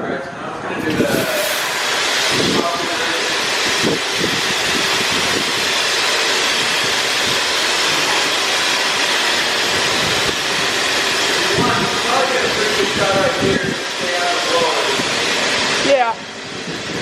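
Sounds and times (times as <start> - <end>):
car wash equipment hissing: 0.7 - 17.0.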